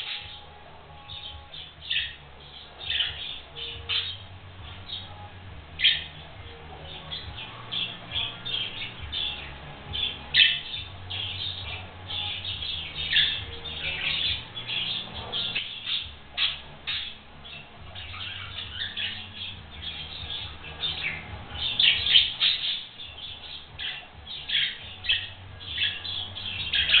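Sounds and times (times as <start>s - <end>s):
budgerigars chirping and squawking: 0.0s - 27.0s.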